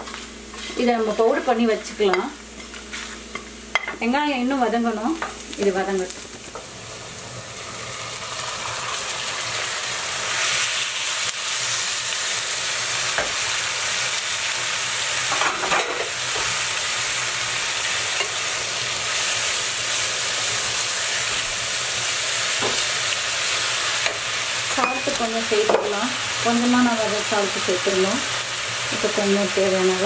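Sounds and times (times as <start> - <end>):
chicken sizzling in hot oil: 5.4 - 30.0.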